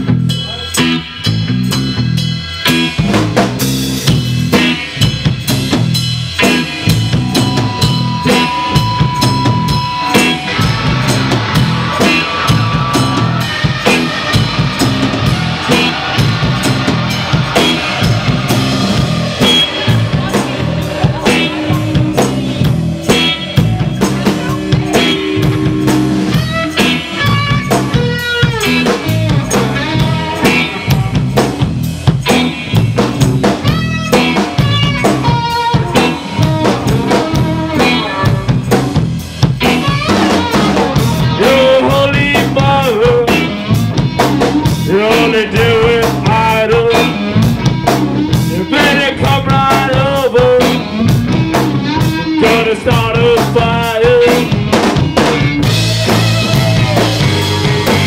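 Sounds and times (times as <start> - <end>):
punk rock band playing: 0.0 - 58.0
drum kit hits: 2.7 - 58.0.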